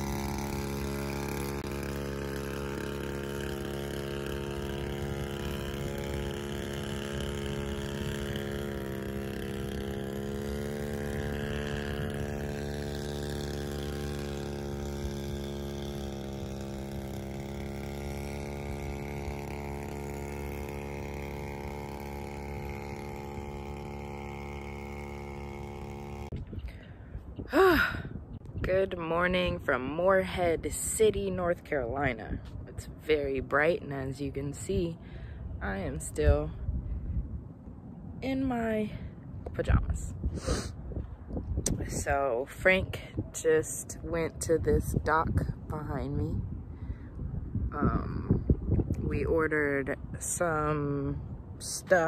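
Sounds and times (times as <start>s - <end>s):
small outboard motor running: 0.0s - 52.0s.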